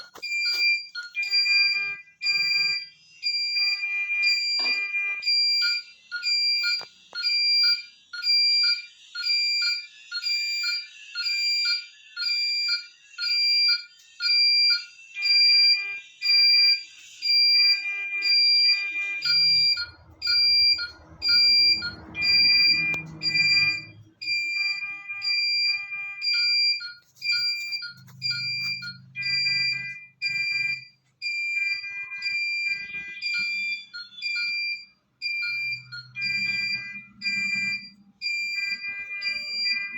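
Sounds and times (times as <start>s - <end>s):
electronic alarm beeping: 0.0s - 39.9s.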